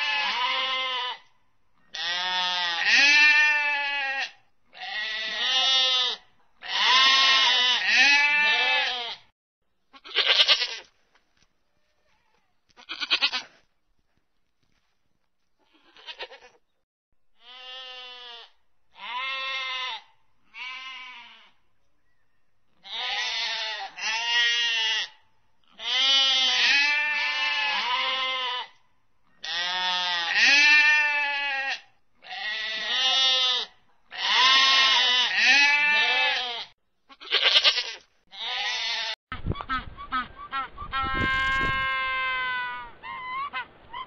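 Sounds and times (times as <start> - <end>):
animals bleating: 0.0 - 9.3, 9.9 - 10.9, 11.7 - 13.7, 15.6 - 16.6, 17.4 - 21.6, 22.8 - 39.2, 41.0 - 43.5.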